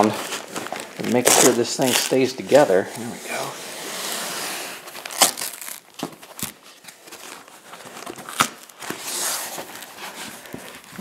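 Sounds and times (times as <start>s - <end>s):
plastic wrap and foam crinkling: 0.0s - 11.0s.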